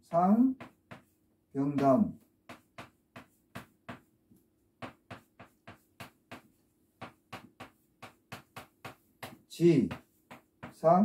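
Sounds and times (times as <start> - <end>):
chalk tapping on chalkboard: 0.1 - 11.0.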